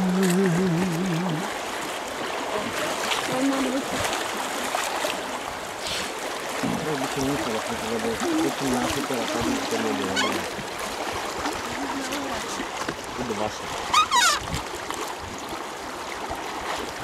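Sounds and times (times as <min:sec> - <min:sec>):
river water rushing and splashing: 0:00.0 - 0:17.0.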